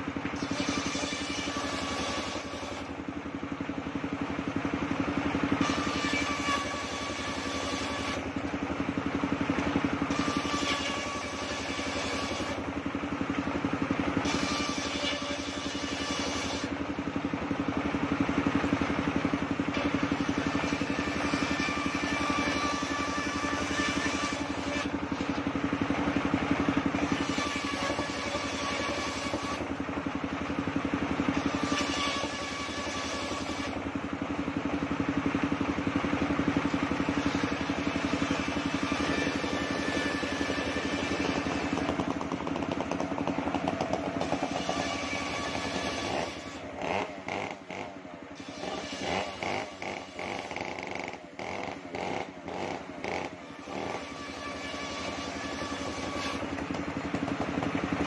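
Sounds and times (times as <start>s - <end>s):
circular saw cutting wood: 0.0s - 58.0s
sawmill engine hum: 0.0s - 58.0s.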